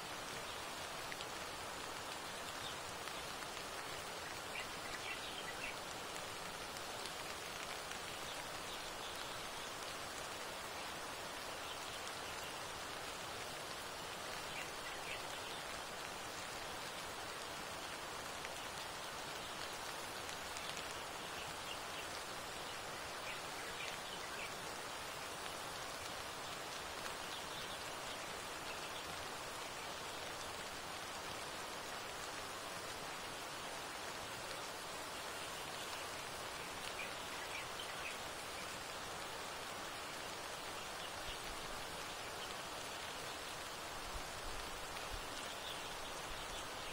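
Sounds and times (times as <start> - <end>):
hot spring boiling and venting: 0.0 - 46.9
rain hissing: 0.0 - 46.9.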